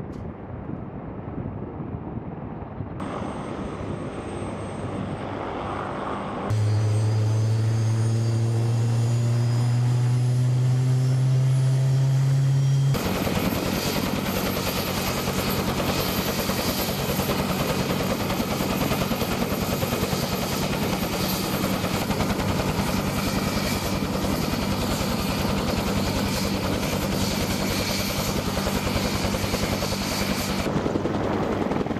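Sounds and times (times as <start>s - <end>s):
turbine engine whine: 0.0s - 31.9s
helicopter rotor beat: 2.7s - 31.9s.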